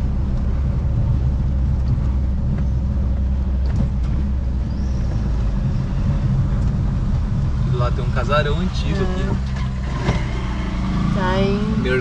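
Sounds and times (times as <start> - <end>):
van engine and road noise: 0.0 - 12.0.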